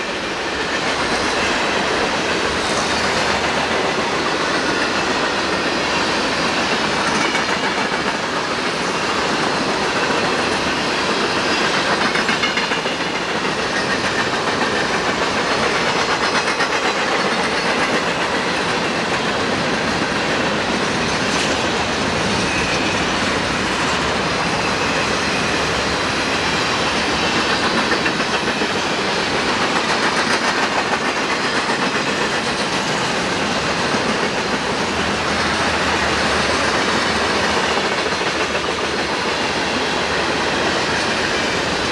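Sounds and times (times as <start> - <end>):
freight train wheels clacking: 0.0 - 41.9.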